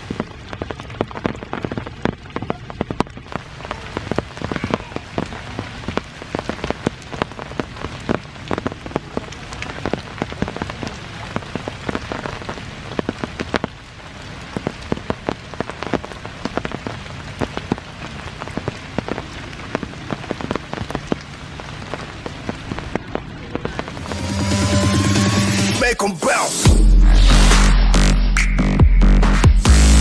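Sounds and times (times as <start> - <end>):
raindrops hitting close by: 0.0 - 25.9
steady rain hiss: 0.0 - 26.7.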